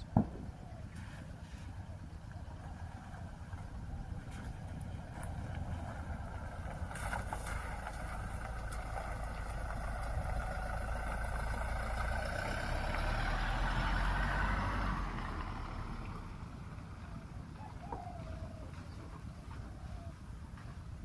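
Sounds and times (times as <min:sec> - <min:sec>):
vehicle passing on road: 0:00.0 - 0:21.0.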